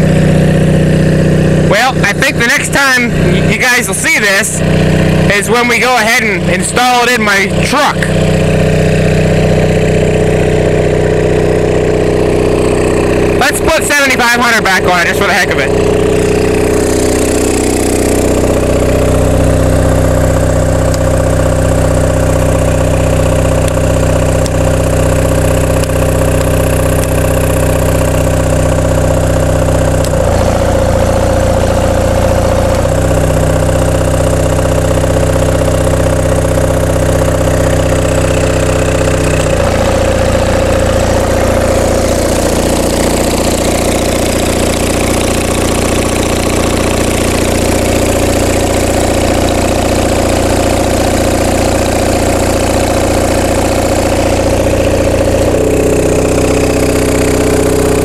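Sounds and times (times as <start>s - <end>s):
diesel generator running: 0.0s - 58.0s.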